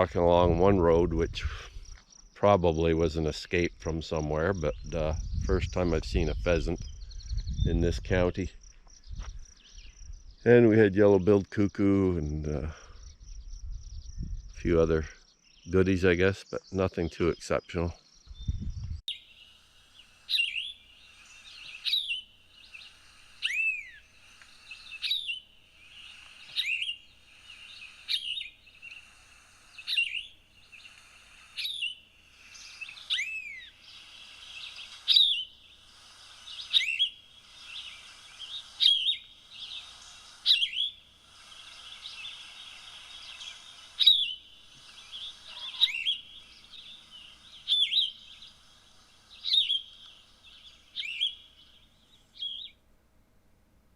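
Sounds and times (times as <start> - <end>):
faint high hiss of insects: 0.0 - 16.7, 19.1 - 52.8
songbird singing: 0.0 - 52.9.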